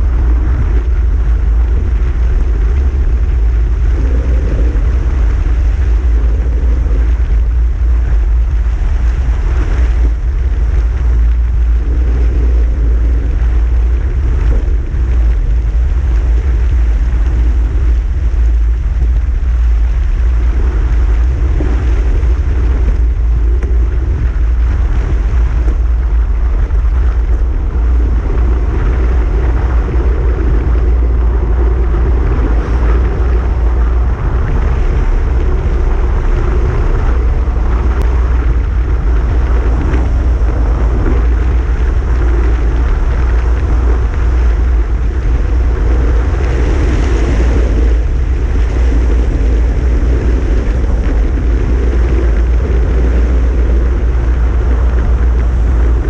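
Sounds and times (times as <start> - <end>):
bicycle tyre noise on road: 0.0 - 56.0
wind rumble on microphone: 0.0 - 56.0.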